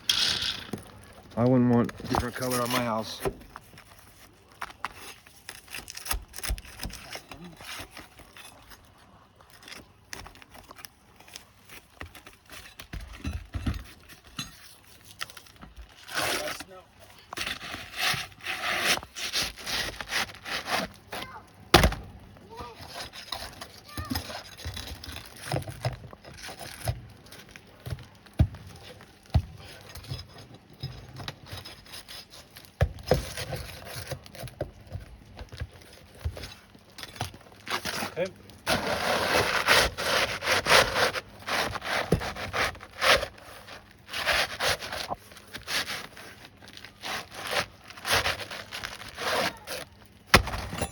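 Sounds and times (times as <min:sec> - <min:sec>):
pry bar scraping roof shingles: 0:00.0 - 0:50.9.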